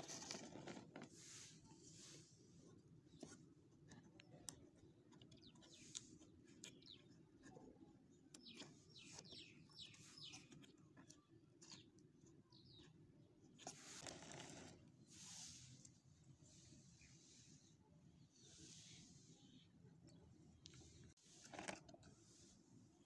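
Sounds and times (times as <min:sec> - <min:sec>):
small birds chirping: 0:01.3 - 0:22.6.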